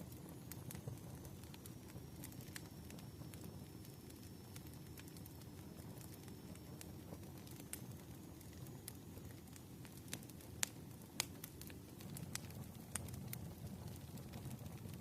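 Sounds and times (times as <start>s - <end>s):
sharp pops of fire: 0.0s - 15.0s
wood fire crackling: 0.0s - 15.0s.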